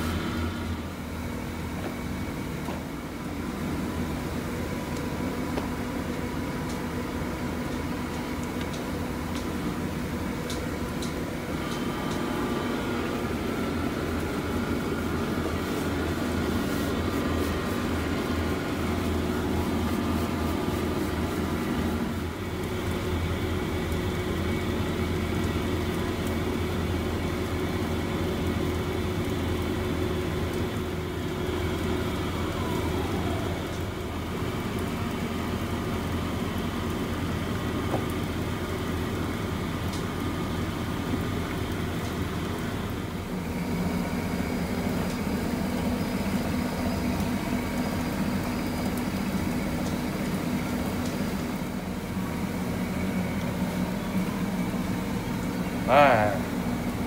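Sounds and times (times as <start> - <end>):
electric machinery humming: 0.0 - 57.0.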